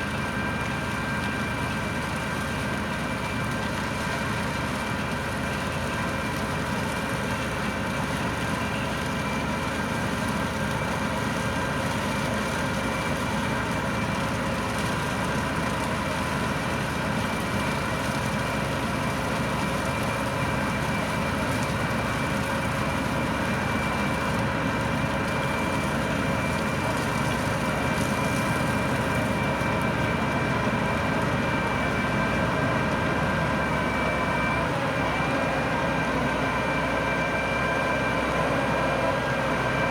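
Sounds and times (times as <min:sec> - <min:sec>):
tractor engine running: 0:00.0 - 0:37.1
potato harvester machinery whine: 0:00.0 - 0:39.9.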